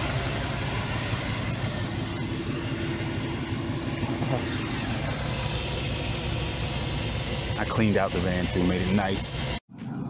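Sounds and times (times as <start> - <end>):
engine idling with misfire: 0.0 - 9.7.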